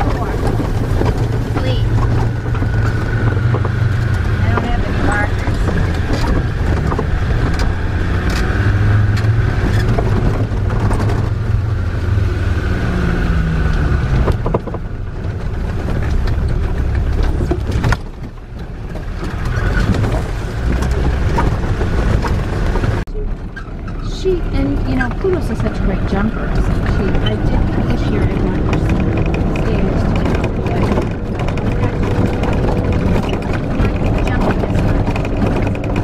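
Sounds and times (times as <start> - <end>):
vehicle engine from inside cabin: 0.0 - 36.0.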